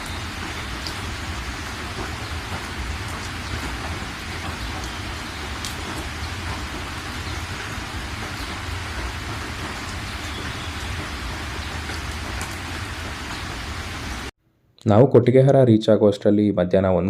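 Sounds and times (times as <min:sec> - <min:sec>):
steady rain hiss: 0:00.0 - 0:14.3.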